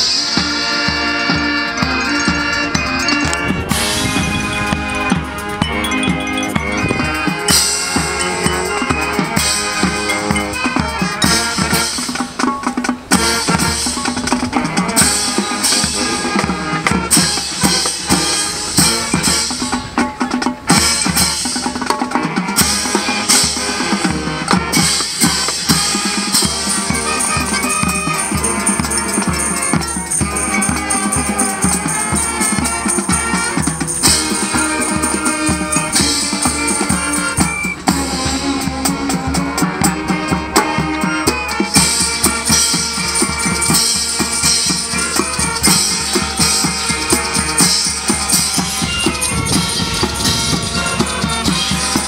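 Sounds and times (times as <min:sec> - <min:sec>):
marching band playing: 0:00.0 - 0:52.0.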